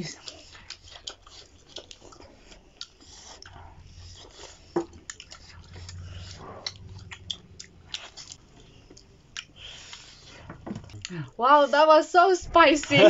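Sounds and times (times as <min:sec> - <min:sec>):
person chewing: 0:00.0 - 0:11.3.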